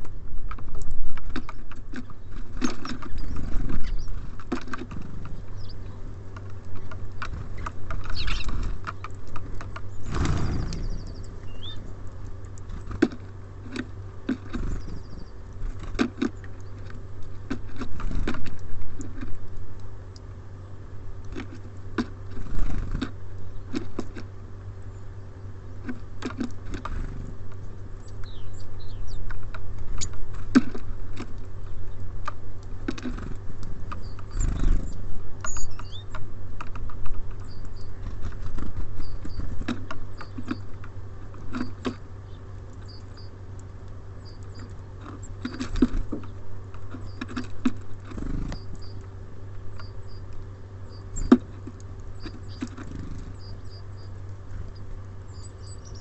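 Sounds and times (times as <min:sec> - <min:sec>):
birds pecking on a feeder: 0:00.0 - 0:56.0
small birds peeping: 0:00.0 - 0:56.0
steady low hum: 0:00.0 - 0:56.0.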